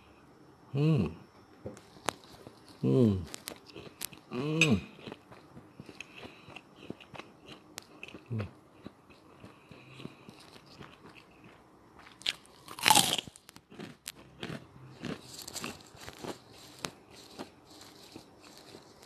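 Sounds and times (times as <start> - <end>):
crunchy chewing of fried food: 1.8 - 19.0.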